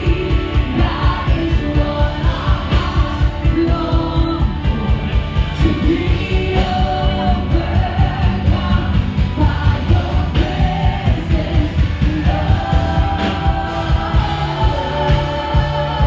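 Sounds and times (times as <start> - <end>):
live band playing: 0.0 - 16.0
people singing: 0.0 - 16.0.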